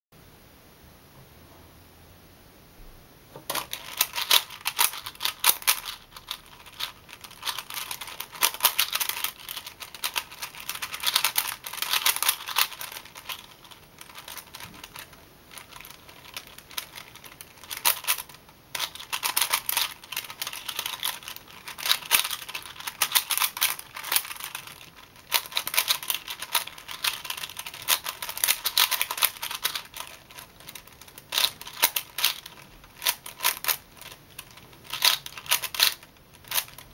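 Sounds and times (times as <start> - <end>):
puzzle cube clicking: 3.5 - 36.9.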